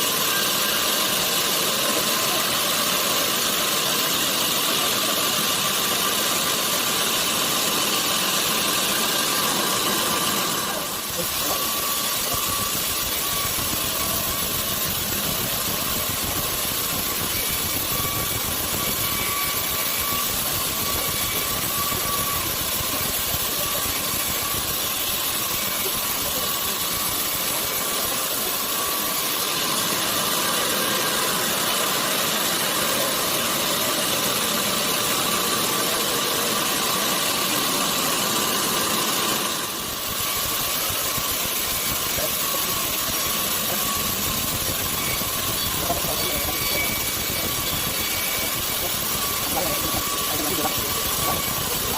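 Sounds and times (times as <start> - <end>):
sawmill machinery running: 0.0 - 51.9
steady machine whine: 0.0 - 51.9.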